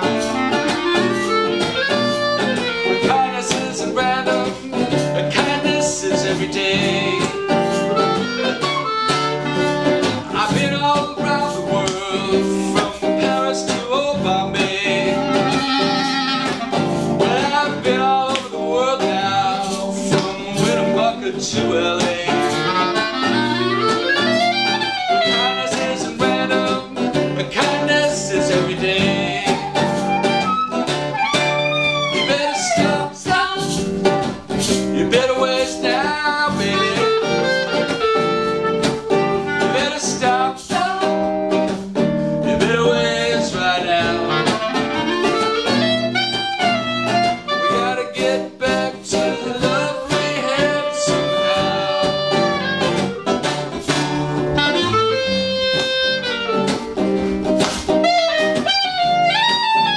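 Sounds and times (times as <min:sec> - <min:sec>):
clarinet melody: 0:00.0 - 0:18.0, 0:19.2 - 0:27.1, 0:28.1 - 0:34.6, 0:35.5 - 0:41.3, 0:43.0 - 0:59.9
strummed guitar chords: 0:00.0 - 0:59.9.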